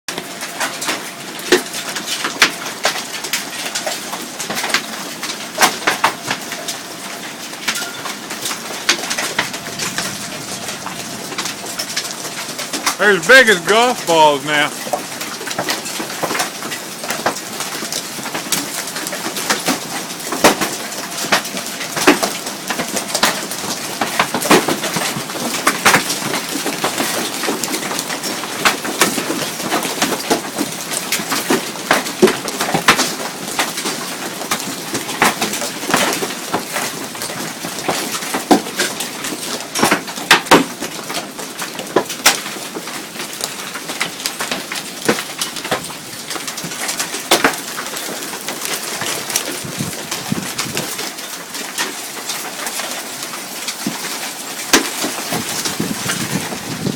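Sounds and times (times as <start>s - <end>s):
hail and rain falling: 0.1s - 56.9s
hailstones cracking and thudding: 0.1s - 56.9s.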